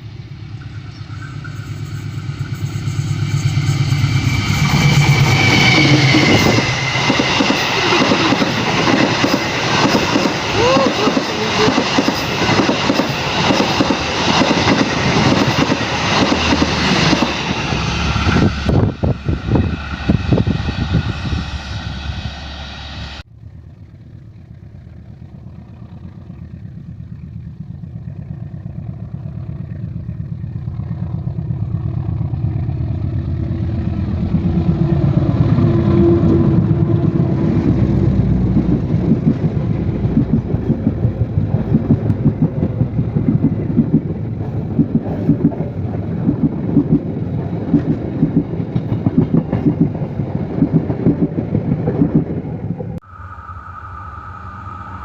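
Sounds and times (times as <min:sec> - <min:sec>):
train wheels clacking on rails: 0:00.0 - 0:23.2, 0:30.7 - 0:53.0
locomotive passing: 0:00.0 - 0:55.0.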